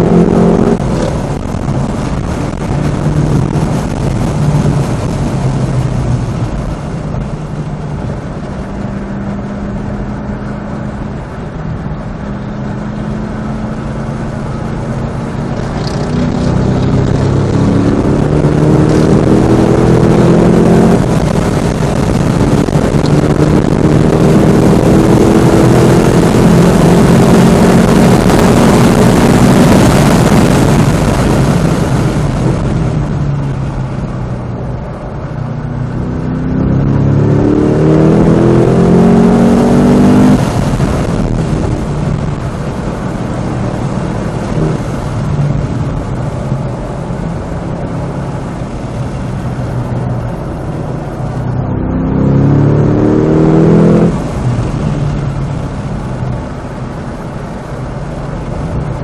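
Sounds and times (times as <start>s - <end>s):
car engine revving at full throttle: 0.0s - 59.0s.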